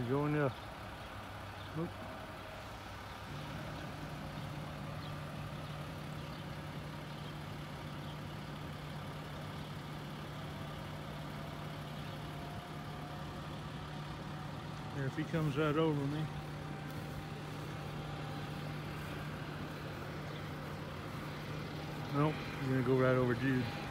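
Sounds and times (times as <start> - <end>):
engine idling: 0.0 - 23.9.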